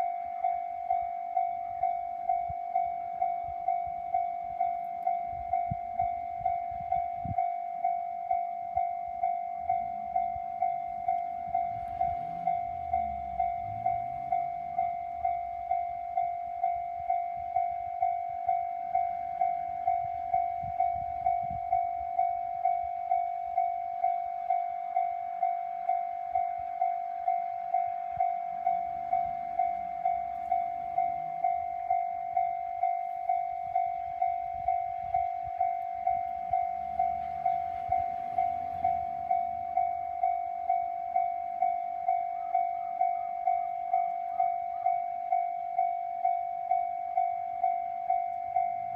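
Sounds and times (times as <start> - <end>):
level crossing warning bell: 0.0 - 48.9
train rumble: 0.0 - 48.9.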